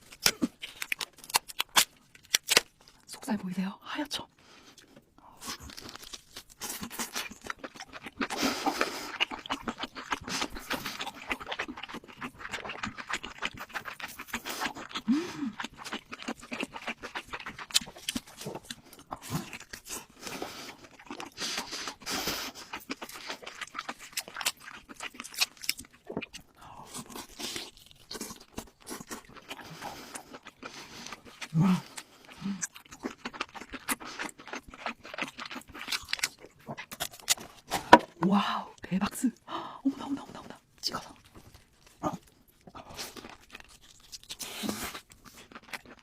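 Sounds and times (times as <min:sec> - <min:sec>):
crunching and chewing: 0:00.0 - 0:03.1, 0:04.6 - 0:38.2, 0:40.0 - 0:46.0.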